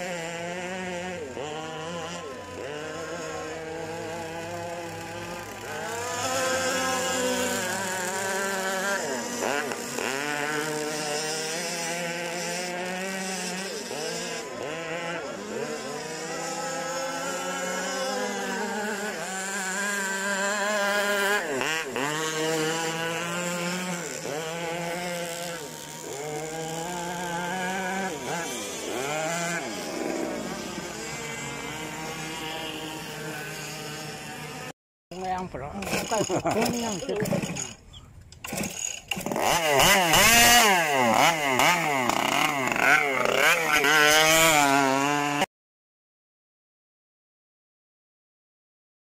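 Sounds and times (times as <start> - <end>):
model boat motor high-pitched: 0.0 - 45.5
small two-stroke engine revving: 0.0 - 45.5.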